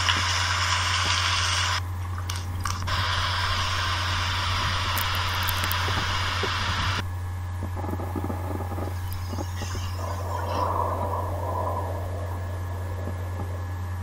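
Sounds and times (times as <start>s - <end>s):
constant low hum: 0.0s - 14.0s
steady hiss: 0.0s - 14.0s.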